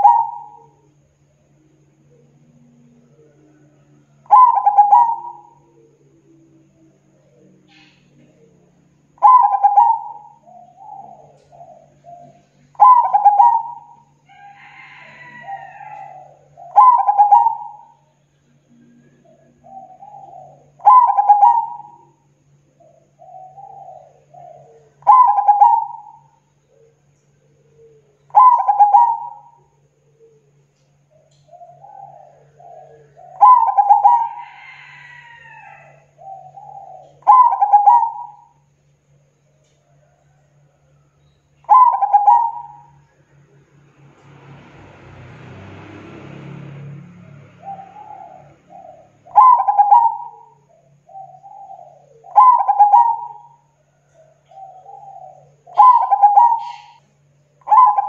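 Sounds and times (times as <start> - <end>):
dove cooing: 0.0 - 43.8, 46.8 - 58.0.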